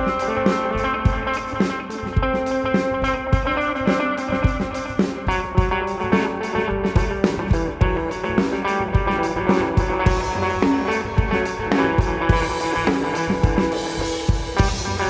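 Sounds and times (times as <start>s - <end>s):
drums shuffle beat: 0.0s - 15.0s
electric guitar ambient chords: 0.0s - 15.0s.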